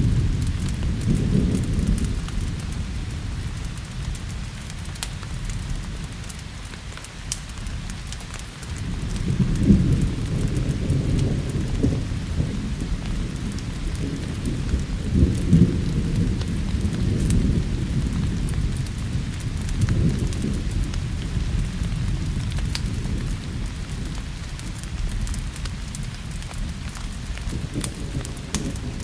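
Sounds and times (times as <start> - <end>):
rolling thunder: 0.0 - 6.3, 8.7 - 29.0
rain hiss: 0.0 - 29.0
wood fire crackling: 0.0 - 29.0.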